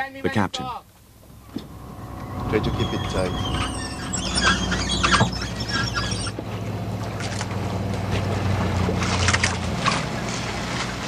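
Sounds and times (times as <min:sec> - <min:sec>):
wind: 0:00.0 - 0:11.0
boat engine droning: 0:00.9 - 0:11.0
water noise: 0:00.9 - 0:11.0.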